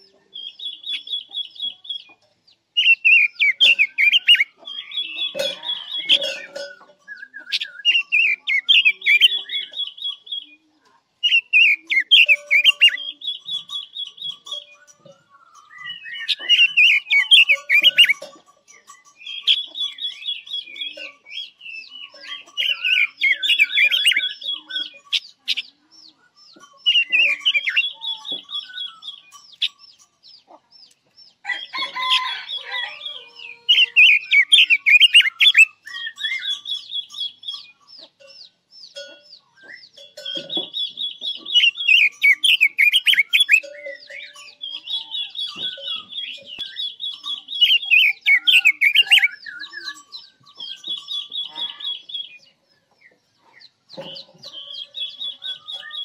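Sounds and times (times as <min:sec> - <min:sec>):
bird warbling and trilling: 0:00.0 - 0:56.0.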